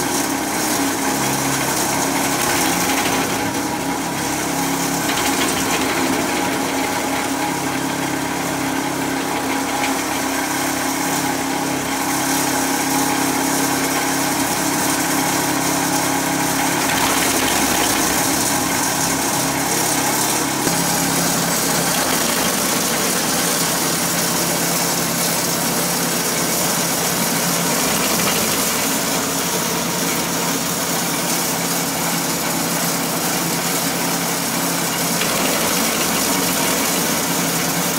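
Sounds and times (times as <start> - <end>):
petrol engine running: 0.0 - 37.9.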